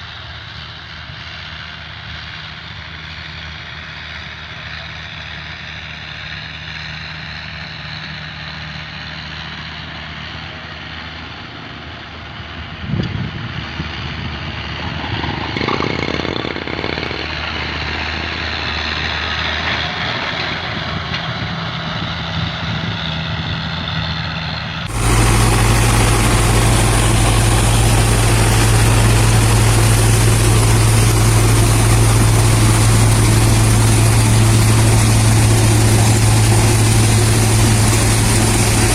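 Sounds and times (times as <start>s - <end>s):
loud close engine: 0.0s - 38.9s
tractor engine running: 0.0s - 38.9s.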